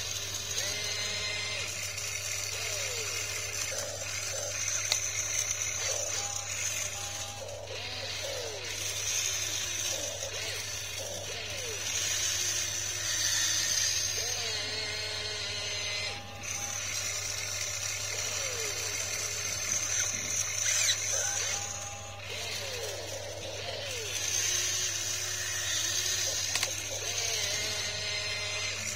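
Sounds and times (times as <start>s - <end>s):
electric motors whining: 0.0s - 28.9s.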